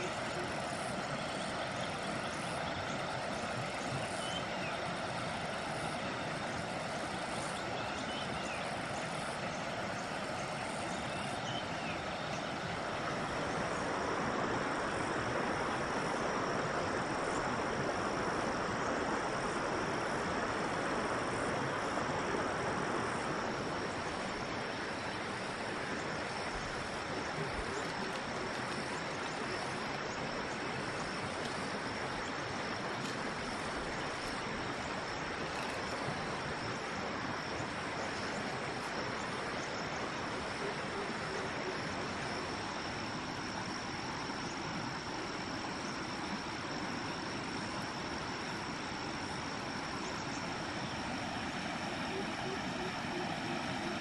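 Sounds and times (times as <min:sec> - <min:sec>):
high insect drone: 0:00.0 - 0:54.0
river rushing: 0:00.0 - 0:54.0.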